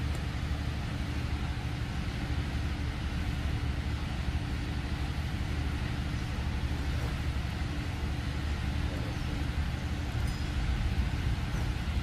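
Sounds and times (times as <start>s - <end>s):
faint constant hum: 0.0s - 12.0s.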